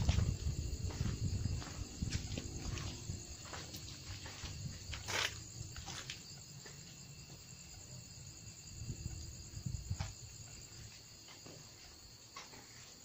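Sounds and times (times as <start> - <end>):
soft footsteps and rustles: 0.0 - 7.6, 9.8 - 13.0
crickets chirping: 0.0 - 13.0.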